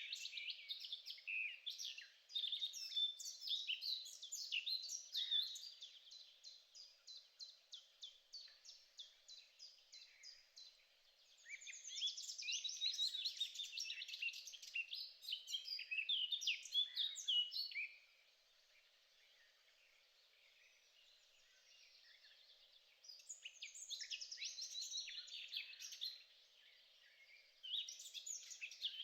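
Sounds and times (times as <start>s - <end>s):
songbird singing: 0.0s - 29.0s.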